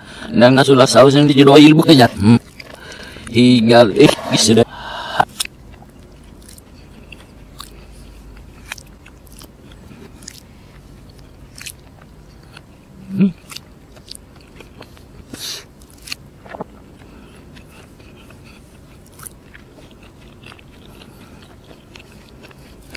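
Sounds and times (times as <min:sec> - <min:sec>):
crunchy chewing: 0:02.1 - 0:03.4, 0:05.1 - 0:22.9.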